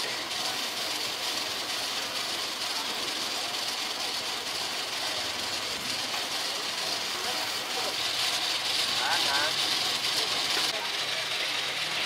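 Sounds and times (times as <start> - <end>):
faint machine running: 0.0 - 12.0.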